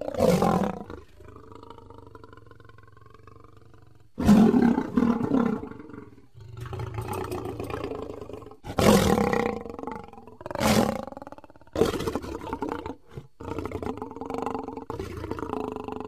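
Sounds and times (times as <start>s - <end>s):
lion roaring: 0.0s - 16.0s.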